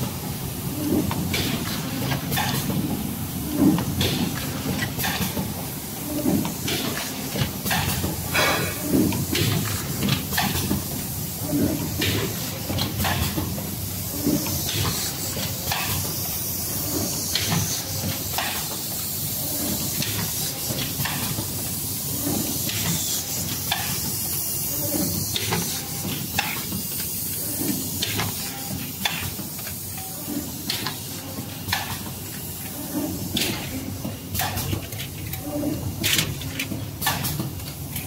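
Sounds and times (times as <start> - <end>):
machine steady hiss: 0.1 - 34.8.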